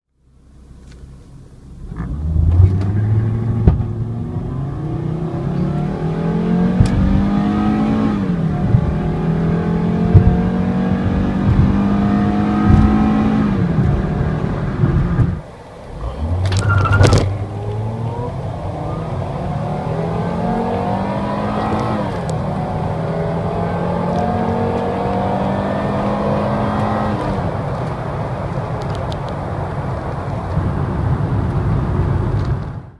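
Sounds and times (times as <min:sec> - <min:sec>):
car engine accelerating: 0:00.5 - 0:32.9.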